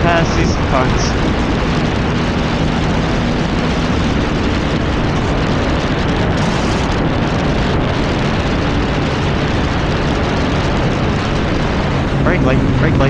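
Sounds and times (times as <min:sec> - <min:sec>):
motorcycle engine hum: 0:00.0 - 0:13.0
wind rush over microphone: 0:00.0 - 0:13.0.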